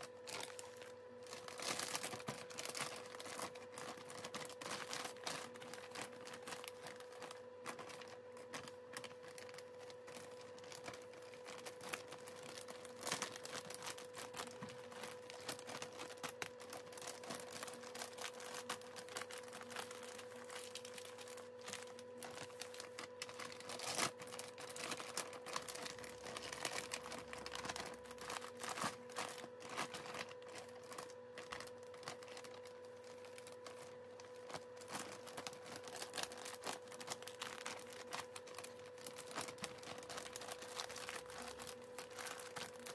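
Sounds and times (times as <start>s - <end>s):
plastic bags crinkling: 0.0s - 42.9s
steady hum: 0.0s - 42.9s.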